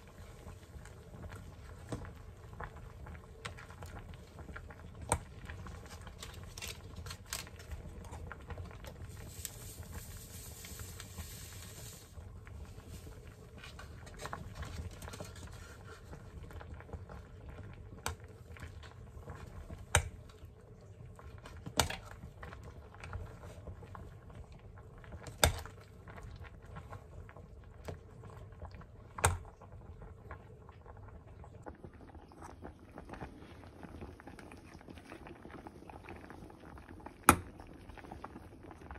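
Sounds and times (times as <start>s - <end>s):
soup bubbling in a pot: 0.0s - 38.9s.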